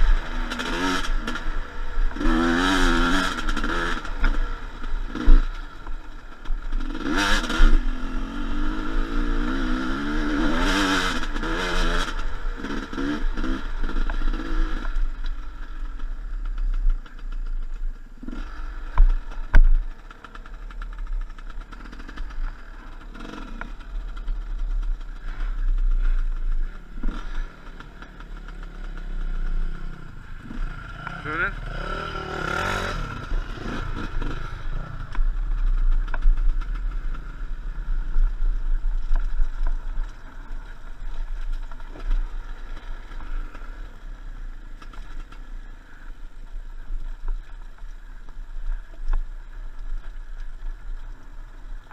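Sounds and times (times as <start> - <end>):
motorcycle engine revving: 0.0 - 47.7.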